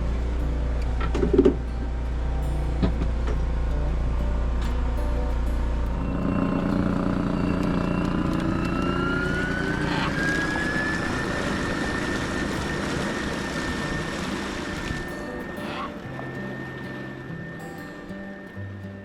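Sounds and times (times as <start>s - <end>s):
engine whine rising: 0.0s - 18.9s.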